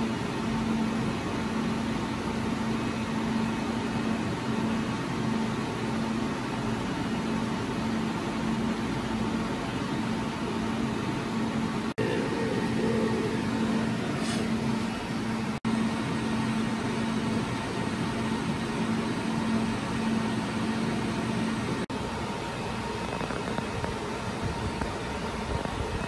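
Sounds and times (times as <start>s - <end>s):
cooling fans whooshing hum: 0.0s - 26.0s.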